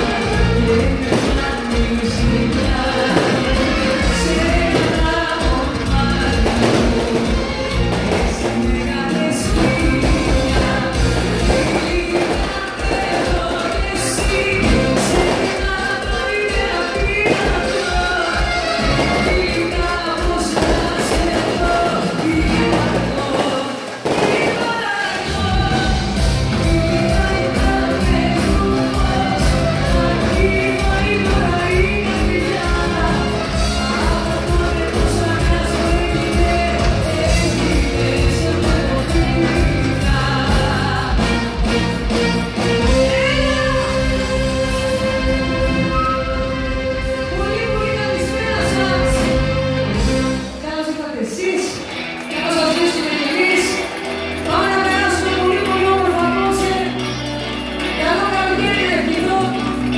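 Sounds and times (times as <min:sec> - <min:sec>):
live pop-rock band: 0:00.0 - 0:59.9
person singing: 0:00.0 - 0:59.9.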